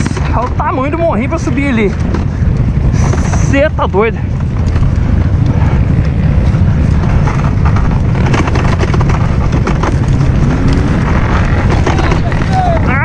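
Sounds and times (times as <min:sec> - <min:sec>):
knocks and rattles from bumps: 0:00.0 - 0:13.0
off-road vehicle engine: 0:00.0 - 0:13.0
wind buffeting microphone: 0:00.0 - 0:13.0.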